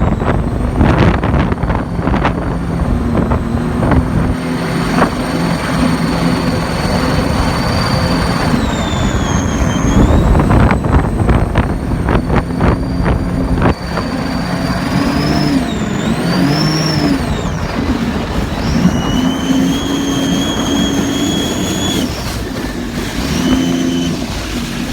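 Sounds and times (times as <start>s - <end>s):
car engine running: 0.0s - 24.9s
high supercharger whine: 0.0s - 24.9s
rapid choppy flutter pulses: 0.0s - 24.9s.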